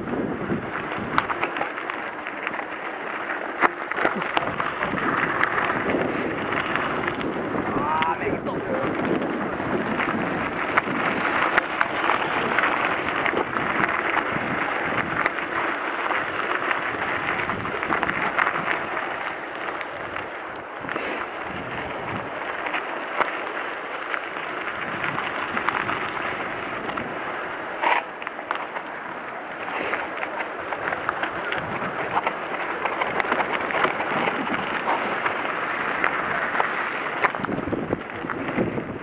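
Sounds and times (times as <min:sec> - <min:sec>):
bike tyres crunching on gravel: 0:00.0 - 0:39.0.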